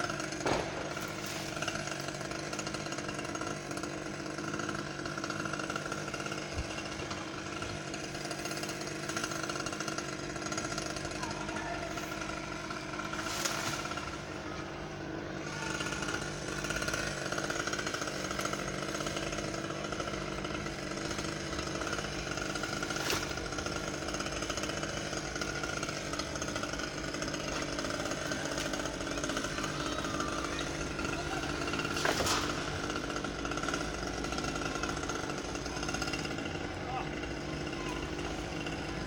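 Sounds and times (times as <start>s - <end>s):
chainsaw running: 0.0s - 39.0s.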